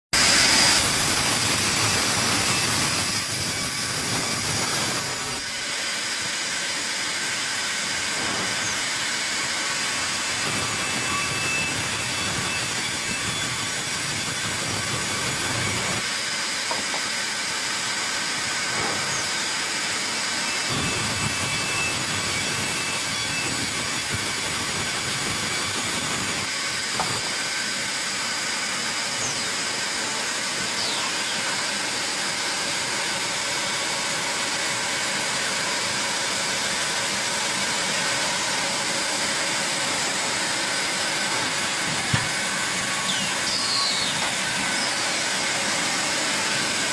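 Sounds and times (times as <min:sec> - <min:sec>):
sawmill hissing machine noise: 0:00.2 - 0:46.9.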